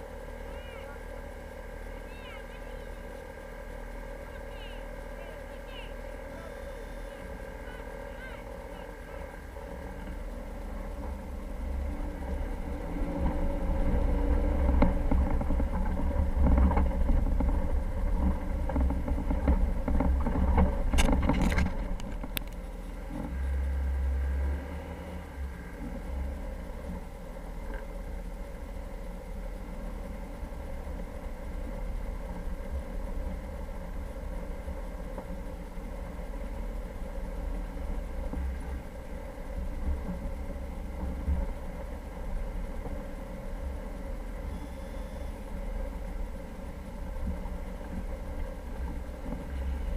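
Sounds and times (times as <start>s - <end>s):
vehicle engine and road rumble: 0.0s - 49.9s.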